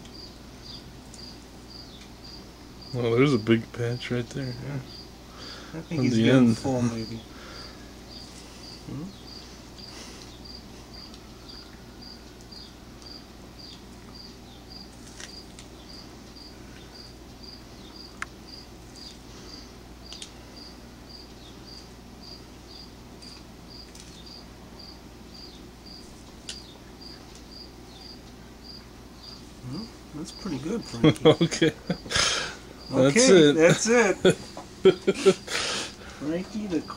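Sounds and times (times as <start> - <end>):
cricket chirping: 0.0 - 36.9
low constant hum: 0.0 - 36.9.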